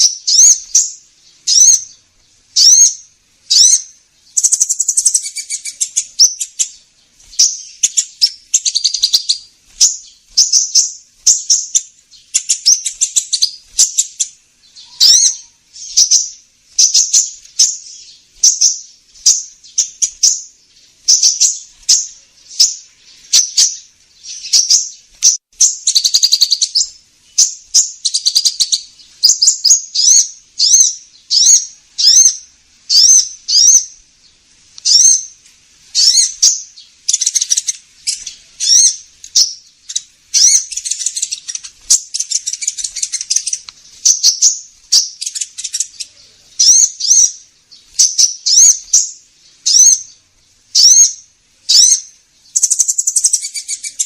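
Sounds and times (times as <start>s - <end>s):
high-pitched bird chirps: 0.0s - 2.0s, 2.6s - 34.0s, 34.8s - 54.0s.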